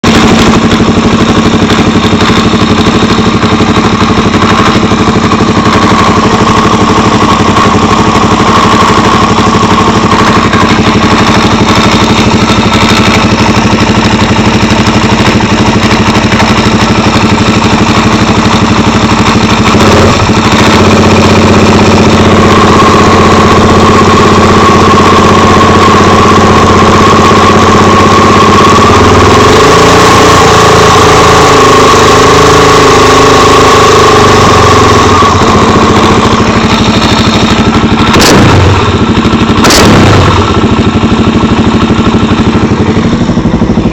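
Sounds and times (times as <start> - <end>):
motorcycle engine idling with knocking: 0.0 - 43.9.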